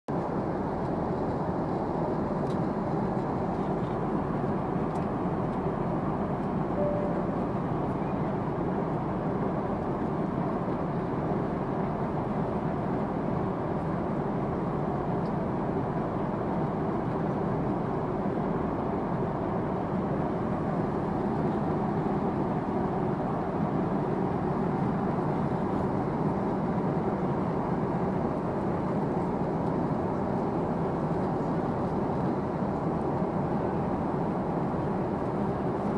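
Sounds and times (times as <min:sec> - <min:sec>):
airplane cabin noise: 0:00.1 - 0:35.9.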